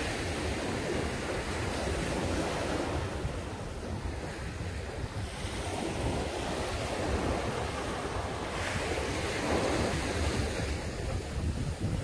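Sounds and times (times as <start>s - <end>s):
waves washing up a beach: 0.0s - 12.0s.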